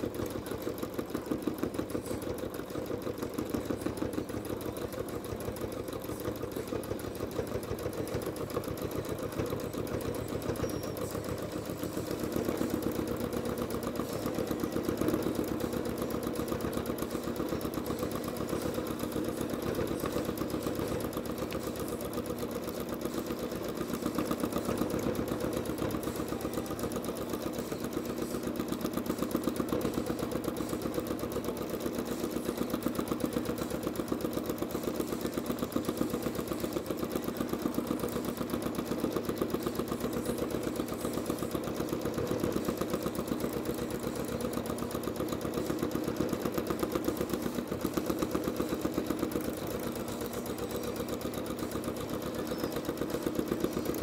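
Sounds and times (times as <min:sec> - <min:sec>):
sewing machine running: 0:00.0 - 0:54.0.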